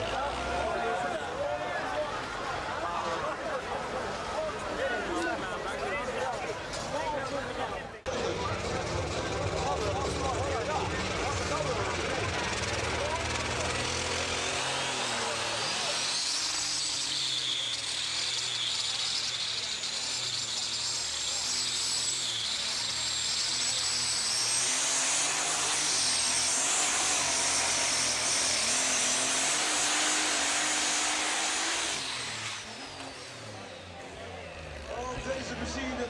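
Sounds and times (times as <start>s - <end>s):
diesel tractor engine roaring: 0.0s - 36.0s.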